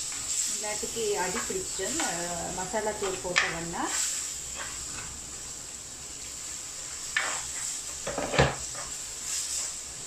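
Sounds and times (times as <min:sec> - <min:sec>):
frying sizzle: 0:00.0 - 0:10.0.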